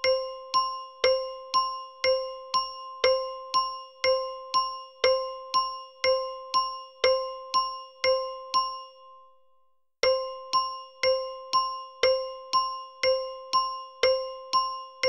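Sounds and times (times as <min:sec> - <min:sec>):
small bell ticking: 0:00.0 - 0:09.2, 0:10.0 - 0:15.0.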